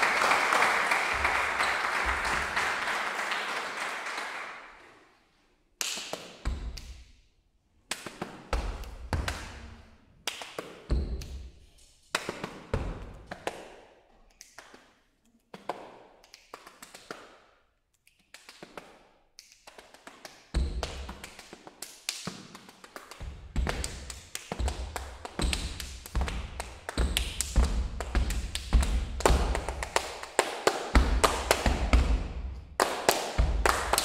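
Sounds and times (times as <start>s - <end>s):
hand claps: 0.0s - 5.0s, 5.8s - 7.1s, 7.9s - 11.4s, 12.1s - 14.9s, 15.5s - 34.0s.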